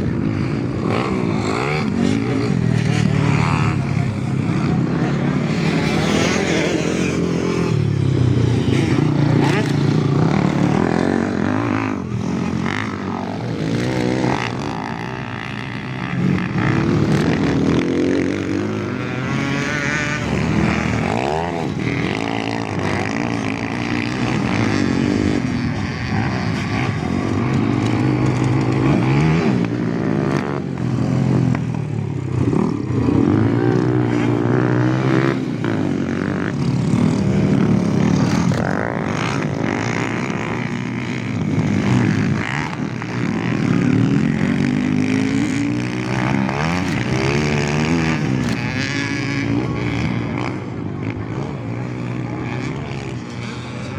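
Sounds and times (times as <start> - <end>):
motocross bike engines racing: 0.0 - 53.9.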